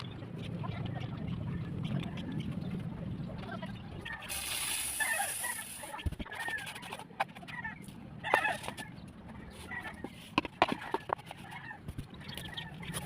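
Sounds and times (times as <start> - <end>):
birds clucking and chirping: 0.0 - 13.0.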